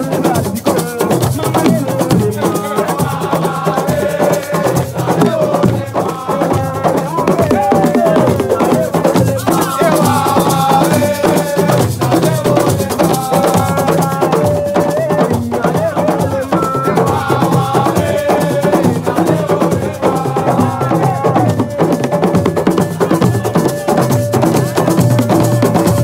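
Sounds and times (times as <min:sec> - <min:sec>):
hand drums and shakers: 0:00.0 - 0:26.0
voices singing: 0:00.0 - 0:26.0.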